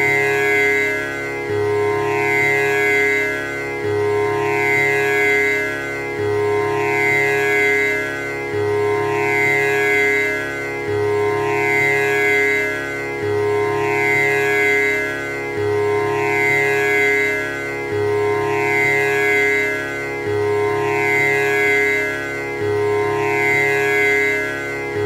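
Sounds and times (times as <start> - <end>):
tanpura strings plucked drone: 0.0 - 25.0.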